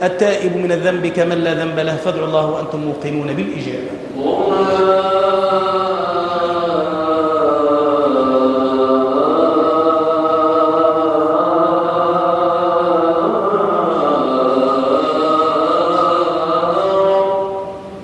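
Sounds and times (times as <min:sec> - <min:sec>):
solo voice chanting: 0:00.0 - 0:18.0.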